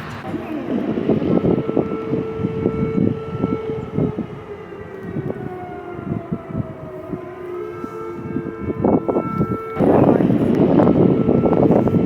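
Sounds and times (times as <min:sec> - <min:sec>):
air raid siren wailing: 0:00.0 - 0:12.0.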